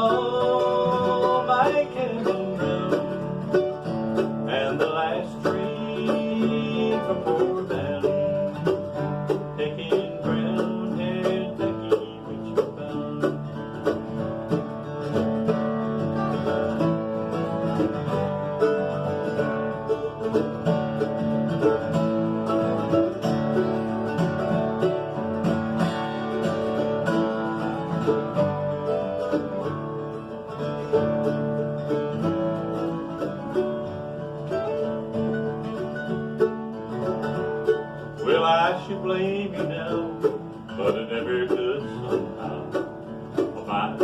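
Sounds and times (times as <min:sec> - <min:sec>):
strummed acoustic guitar: 0:00.0 - 0:44.0.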